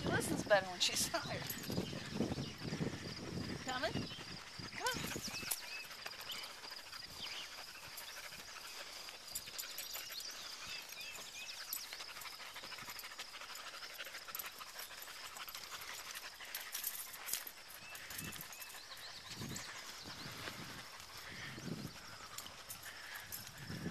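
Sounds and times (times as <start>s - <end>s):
dog panting: 0.0s - 23.9s.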